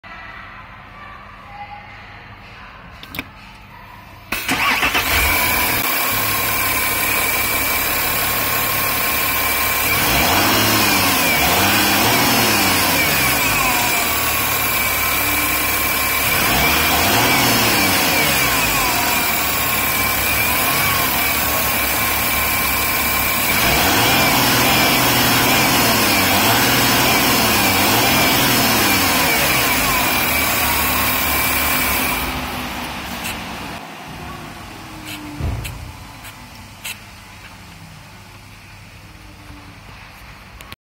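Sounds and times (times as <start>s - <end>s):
diesel engine starting and idling: 4.3s - 40.8s.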